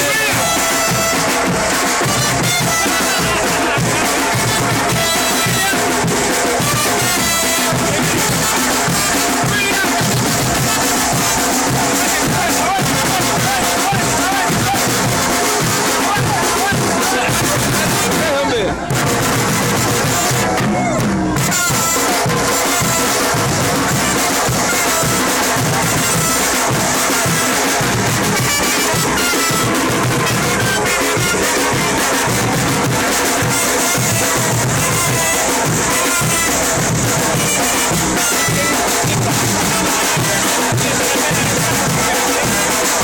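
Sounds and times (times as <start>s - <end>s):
crowd noise: 0.0s - 43.0s
loud music with drum beat: 0.0s - 43.0s.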